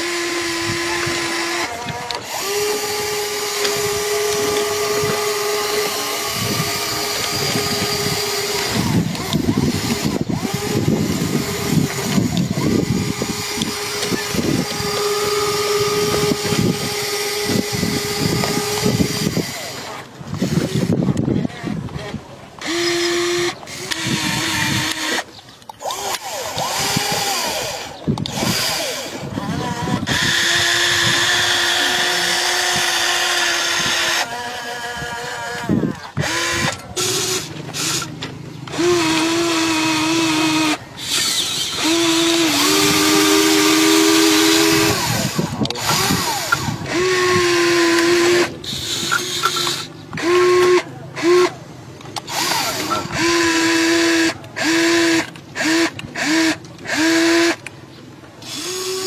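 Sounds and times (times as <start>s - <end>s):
toy excavator motors whining: 0.0s - 59.0s.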